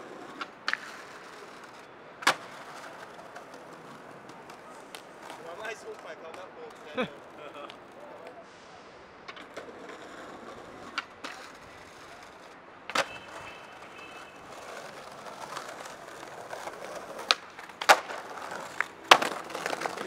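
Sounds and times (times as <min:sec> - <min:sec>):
skateboard clacking on ground: 0:00.0 - 0:08.4, 0:09.2 - 0:20.0
skateboard wheels rolling on stone: 0:00.0 - 0:08.4, 0:09.2 - 0:20.0.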